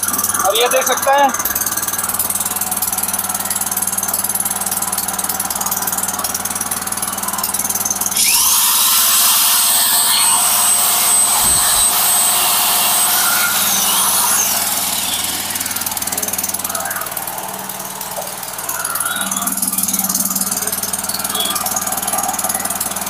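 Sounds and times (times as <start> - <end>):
electric drill whirring whine: 0.0 - 23.0
generator engine running: 0.0 - 23.0.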